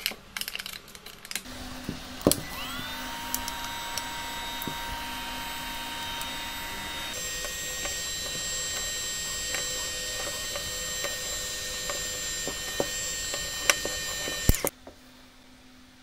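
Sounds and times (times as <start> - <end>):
heat gun whining and blowing: 1.4 - 14.7.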